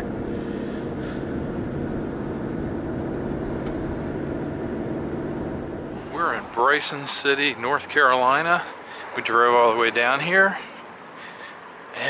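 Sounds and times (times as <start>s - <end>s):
vehicle road and engine hum: 0.0s - 12.0s.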